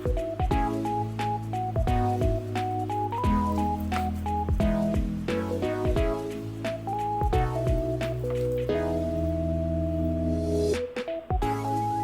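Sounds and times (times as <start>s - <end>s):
electronic music with thumping beat: 0.0s - 12.0s.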